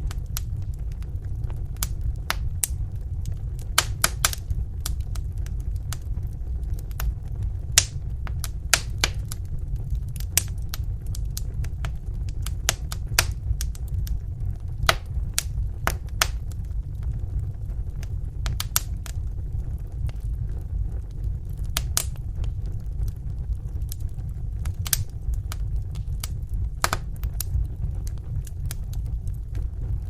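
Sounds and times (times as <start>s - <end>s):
fire rumbling: 0.0s - 30.0s
wood fire crackling and popping: 0.0s - 30.0s.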